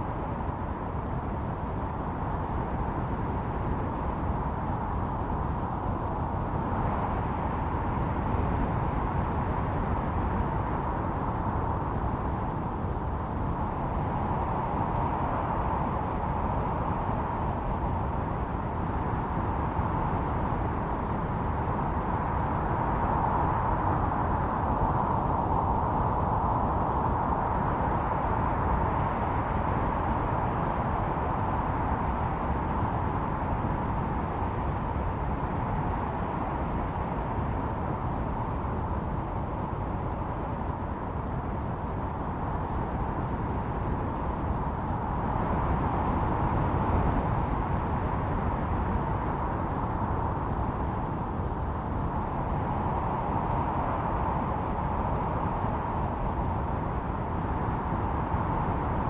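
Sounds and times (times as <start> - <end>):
howling snowstorm wind: 0.0 - 59.0.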